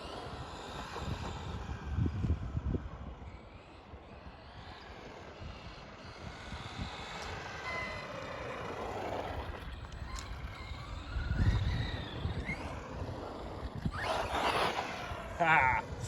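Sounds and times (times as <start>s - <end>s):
rc truck electric motor whining: 0.0s - 16.0s.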